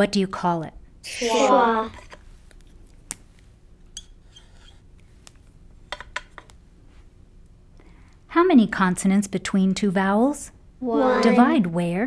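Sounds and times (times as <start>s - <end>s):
quiet room hum: 0.0s - 12.0s.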